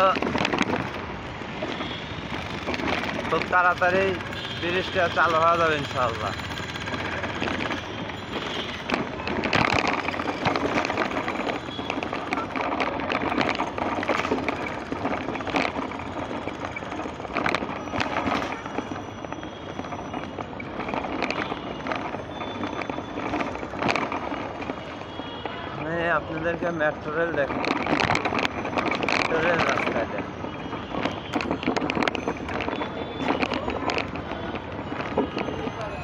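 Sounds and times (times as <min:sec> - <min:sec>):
traffic noise: 0:00.0 - 0:36.0
voices of passers-by: 0:00.0 - 0:36.0.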